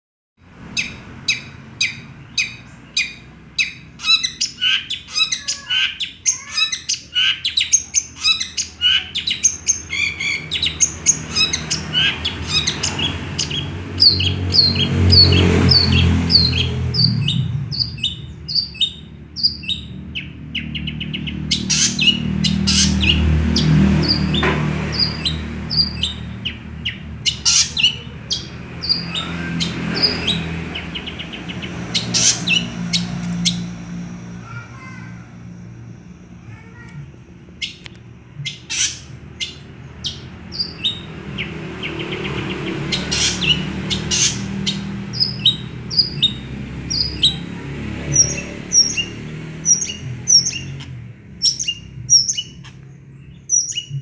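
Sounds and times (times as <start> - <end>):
bird singing chirps and whistles: 0.8 - 33.7, 38.4 - 47.4, 48.2 - 54.0.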